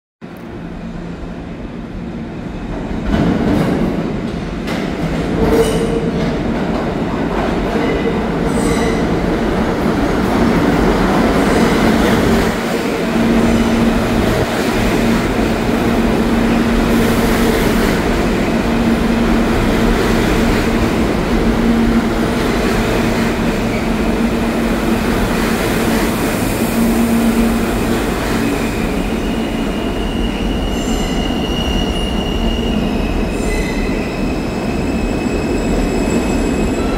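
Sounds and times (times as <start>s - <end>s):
subway train running along platform: 0.2s - 36.9s.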